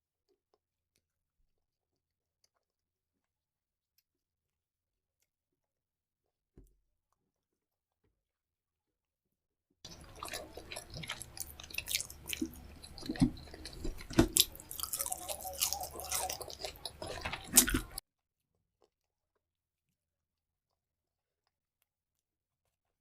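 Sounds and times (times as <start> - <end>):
person chewing food: 0.2 - 8.1, 9.9 - 23.0.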